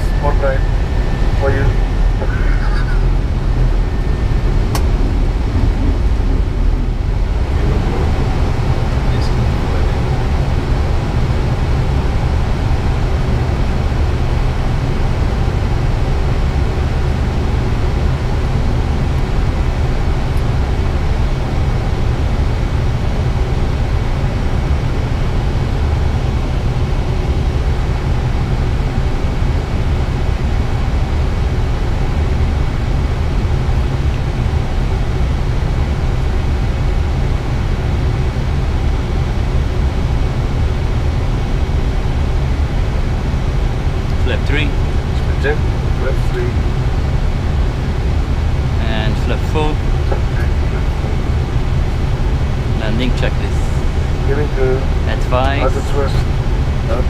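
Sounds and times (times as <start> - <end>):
aircraft cabin rumble: 0.0 - 57.0
faint steady hum: 0.0 - 57.0.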